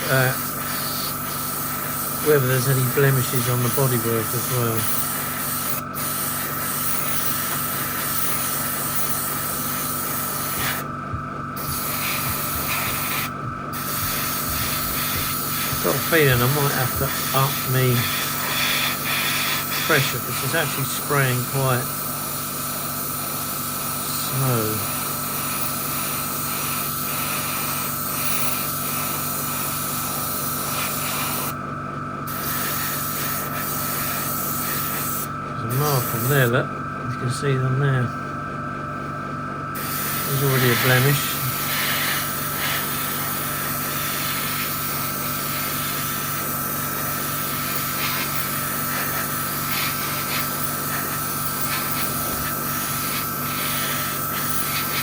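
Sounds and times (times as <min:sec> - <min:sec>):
airbrush spraying hiss: 0:00.0 - 0:10.9, 0:11.6 - 0:31.6, 0:32.3 - 0:36.4, 0:39.8 - 0:55.0
steady hum: 0:00.0 - 0:55.0.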